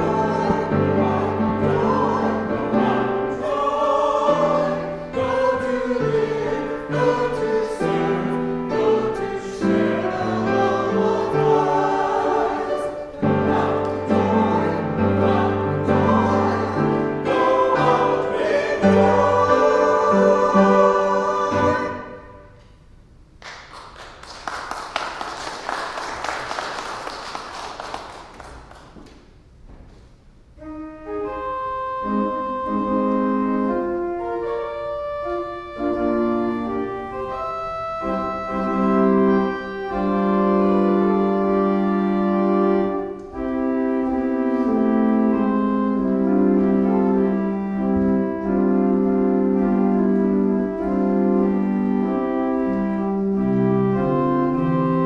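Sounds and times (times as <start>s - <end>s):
pipe organ chords: 0.0s - 22.8s, 30.6s - 55.0s.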